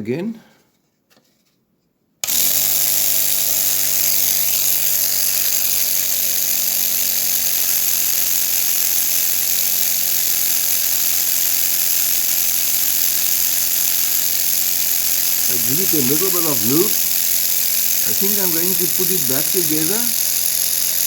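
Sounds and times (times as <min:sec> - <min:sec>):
air compressor motor hum with hiss: 0:02.2 - 0:21.0.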